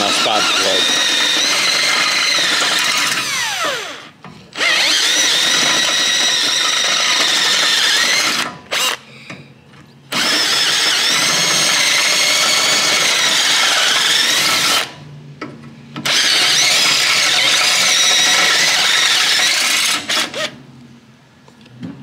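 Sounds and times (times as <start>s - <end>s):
cordless drill drilling metal: 0.0s - 9.0s, 10.1s - 15.0s, 16.0s - 20.6s.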